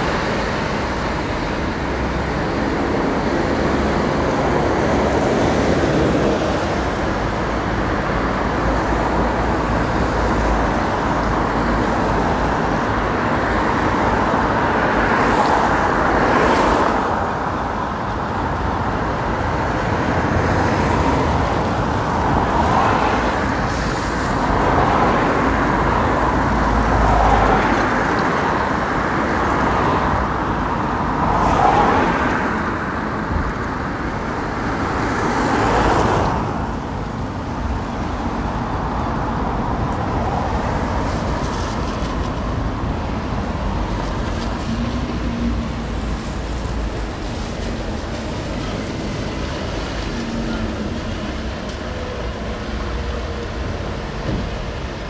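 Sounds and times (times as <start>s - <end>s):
road noise: 0.0s - 55.0s
vehicles passing: 0.0s - 55.0s.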